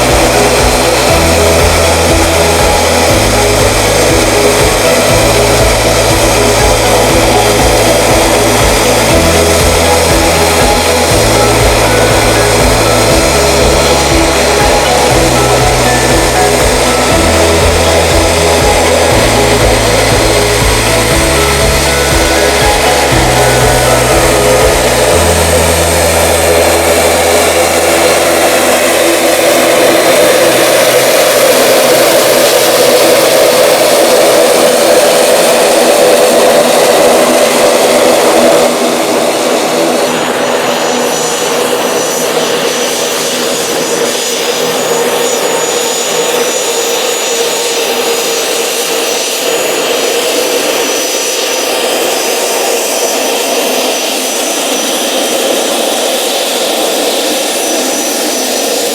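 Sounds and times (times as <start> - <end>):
aircraft engines running: 0.0 - 58.9
high whine: 0.0 - 58.9.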